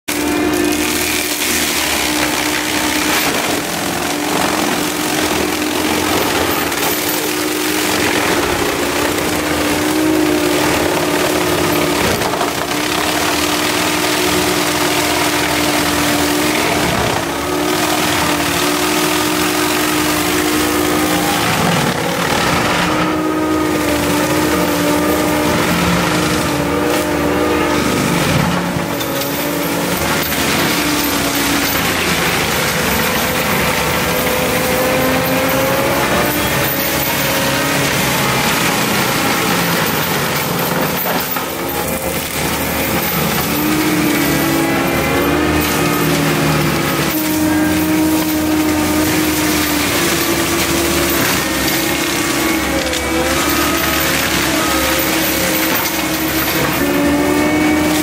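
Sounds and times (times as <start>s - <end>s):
diesel engine under load: 0.0s - 58.0s
mulcher grinding wood: 0.0s - 58.0s.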